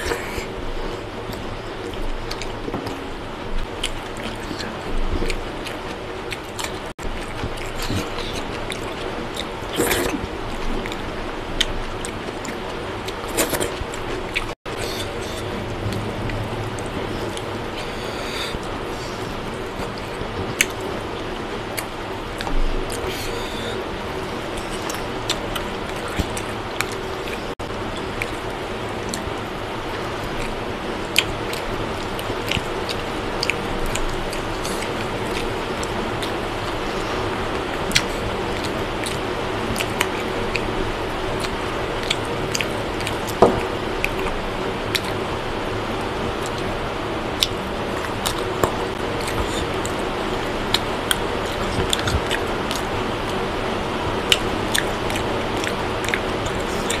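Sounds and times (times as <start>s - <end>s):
person chewing food: 0.0s - 45.2s, 47.4s - 53.4s, 54.2s - 57.0s.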